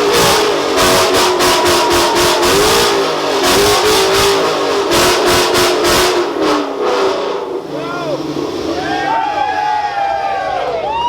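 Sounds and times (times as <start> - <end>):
car engine revving: 0.0 - 9.2
exhaust crackles: 0.0 - 9.3.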